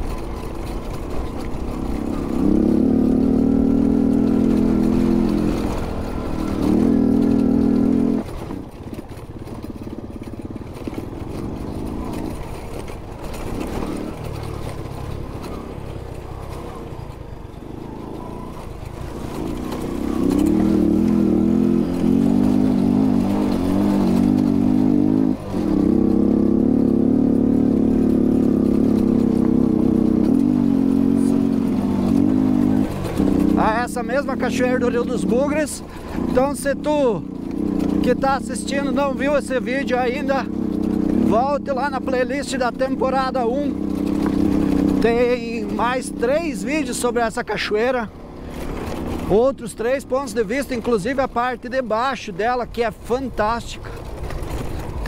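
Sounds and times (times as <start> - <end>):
small motorcycle engine pulling: 0.0 - 55.0.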